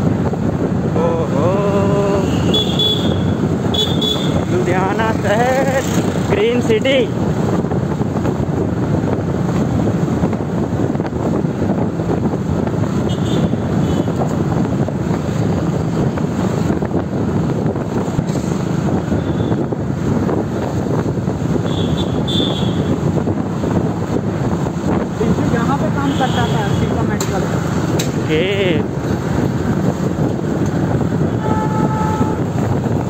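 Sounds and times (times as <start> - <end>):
street traffic: 0.0 - 33.0
wind rush: 0.0 - 33.0.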